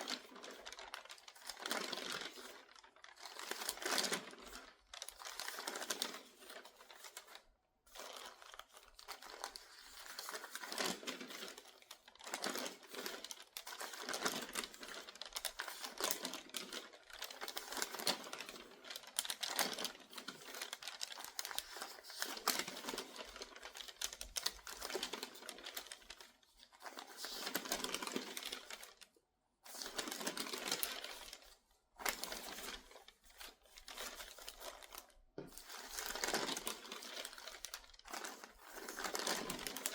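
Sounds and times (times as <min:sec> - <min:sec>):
newspaper pages crinkling: 0:00.0 - 0:39.9.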